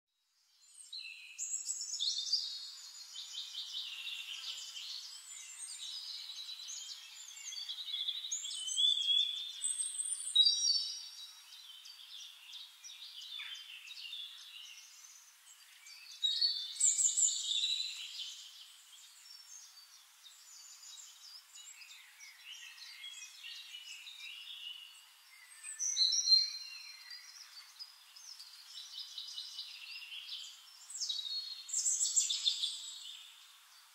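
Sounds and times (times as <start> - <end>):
songbirds chirping: 0.1 - 33.9.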